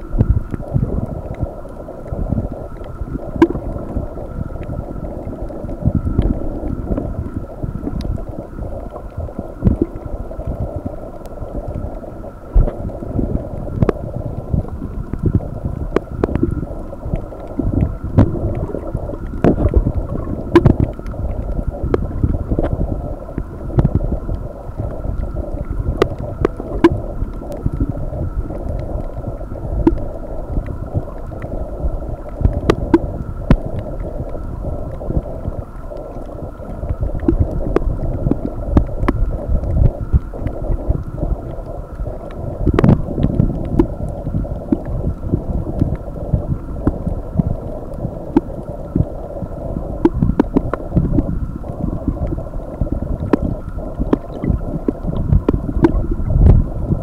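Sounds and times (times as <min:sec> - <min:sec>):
underwater water wash: 0:00.0 - 0:57.0
sharp clicks and pops: 0:00.2 - 0:08.2, 0:08.8 - 0:12.0, 0:12.6 - 0:31.6, 0:32.2 - 0:49.2, 0:50.0 - 0:57.0.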